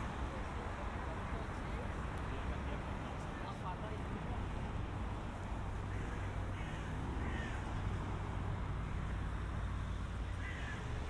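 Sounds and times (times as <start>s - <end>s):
street traffic drone: 0.0s - 11.0s.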